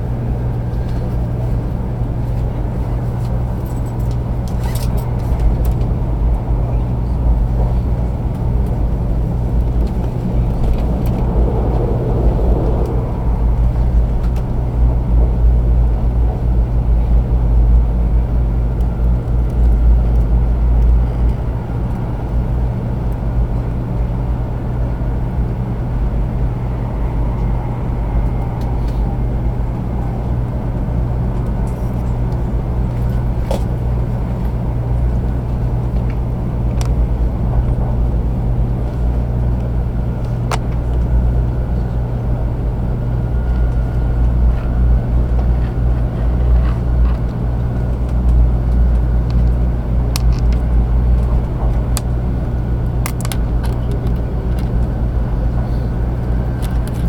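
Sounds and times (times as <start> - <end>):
train cabin rumble: 0.0 - 57.0.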